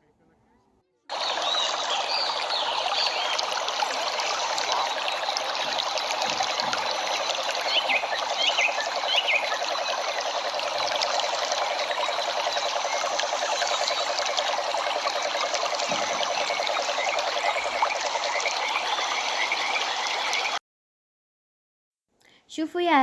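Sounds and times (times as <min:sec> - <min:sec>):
bird chirps: 0:01.1 - 0:20.6
pulsing animal calls: 0:01.1 - 0:20.6.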